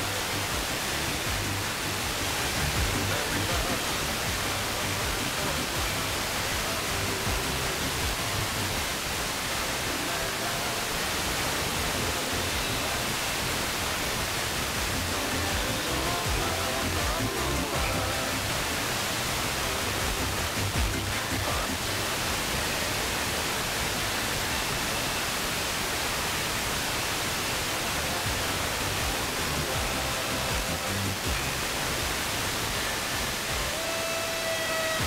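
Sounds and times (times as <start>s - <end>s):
faint radio music: 0.0s - 35.0s
heavy radio hiss: 0.0s - 35.0s.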